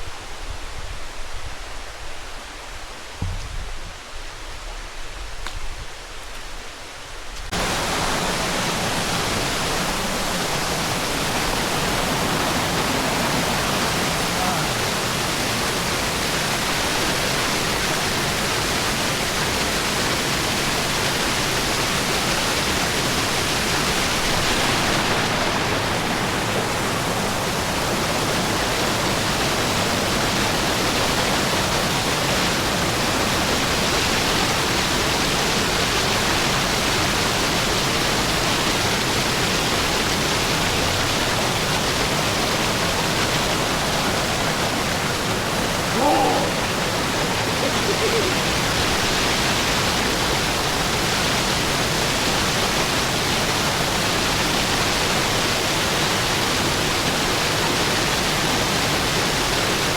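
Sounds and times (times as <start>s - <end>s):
water rushing: 6.8s - 59.9s.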